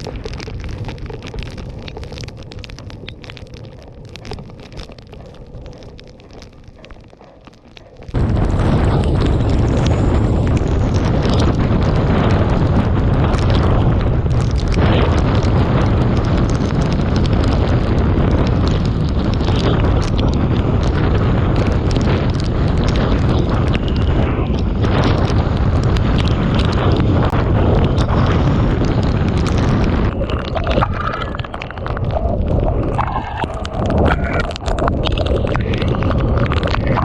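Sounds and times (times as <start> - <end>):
strong wind hitting microphone: 0.0 - 37.0.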